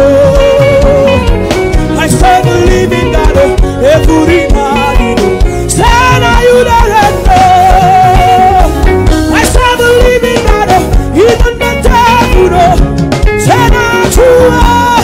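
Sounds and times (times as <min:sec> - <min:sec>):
gospel band playing: 0:00.0 - 0:15.0
person singing: 0:00.0 - 0:15.0.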